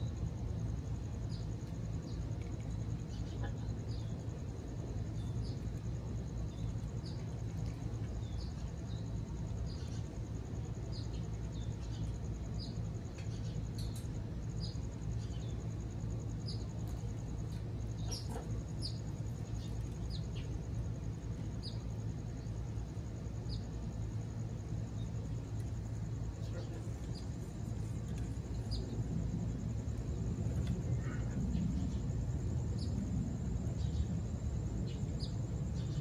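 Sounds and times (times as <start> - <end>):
birds chirping faintly: 0.0 - 36.0.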